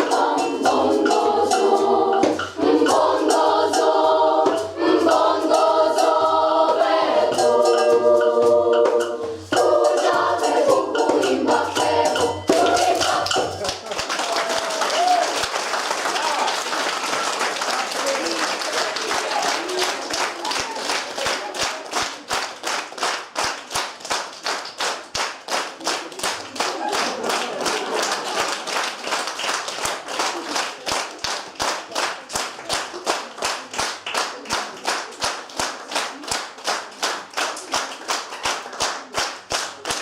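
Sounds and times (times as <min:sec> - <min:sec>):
murmur of voices: 0:00.0 - 0:15.3, 0:16.0 - 0:23.9, 0:24.8 - 0:40.0
crowd clapping in unison: 0:00.0 - 0:40.0.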